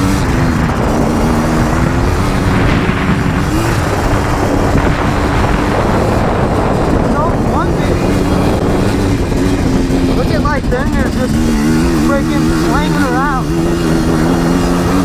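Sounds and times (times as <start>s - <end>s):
two-stroke engine revving: 0.0s - 15.0s
wind rumble on microphone: 0.0s - 15.0s.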